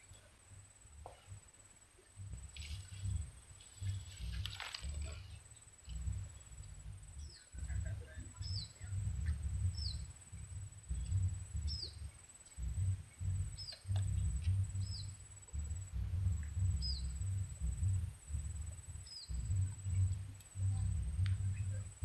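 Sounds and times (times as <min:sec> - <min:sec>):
low rumble on microphone: 0:00.0 - 0:22.0
high-pitched insect drone: 0:02.3 - 0:22.0.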